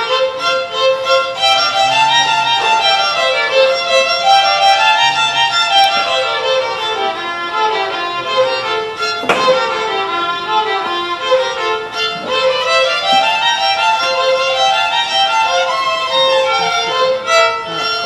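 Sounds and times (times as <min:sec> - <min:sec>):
two violins playing: 0:00.0 - 0:18.0.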